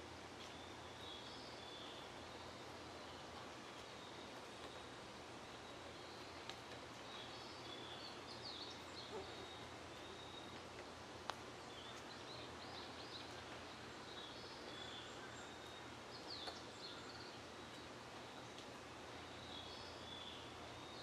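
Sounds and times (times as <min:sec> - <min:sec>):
background hiss: 0:00.0 - 0:21.0
birds chirping: 0:00.0 - 0:21.0.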